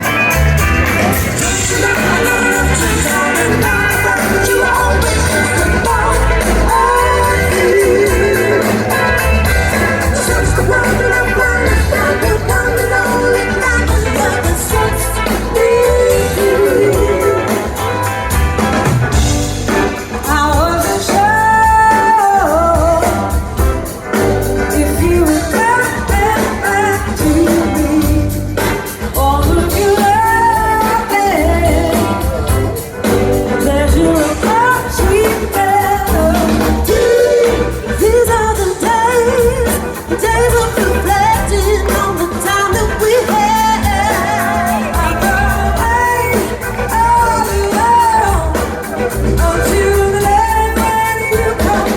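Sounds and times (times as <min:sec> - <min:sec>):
live rock band playing: 0:00.0 - 0:51.9
person singing lead vocal: 0:00.0 - 0:51.9.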